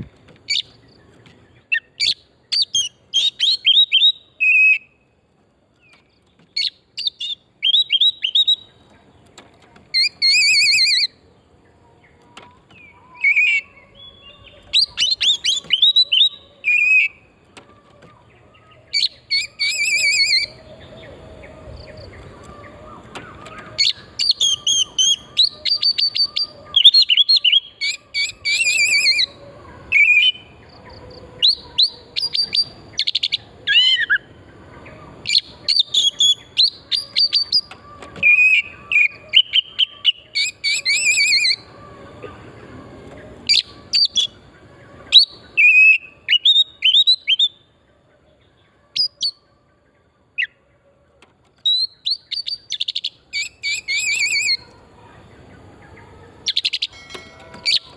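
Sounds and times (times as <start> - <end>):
songbird singing: 0.0 - 57.9.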